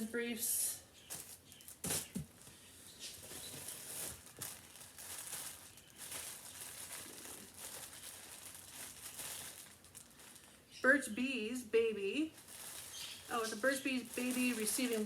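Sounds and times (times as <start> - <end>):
plastic packaging crinkling: 1.0 - 10.6, 12.3 - 15.0
sharp plastic crackle: 1.1 - 10.6, 12.3 - 15.0.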